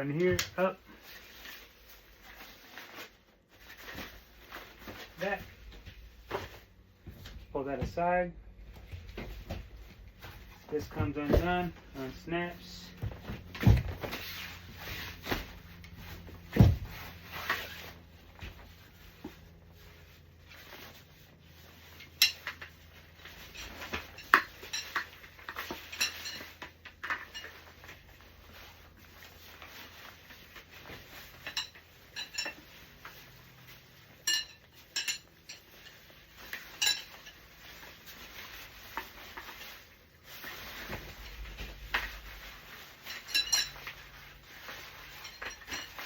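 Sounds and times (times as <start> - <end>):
handling and rubbing: 0.0 - 46.0.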